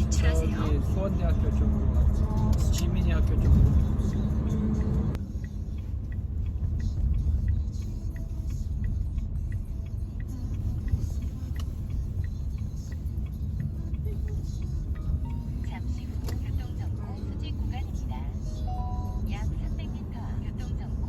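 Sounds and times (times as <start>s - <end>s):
turn signal clicking: 0.0s - 18.2s
road and engine rumble in car: 0.0s - 21.0s.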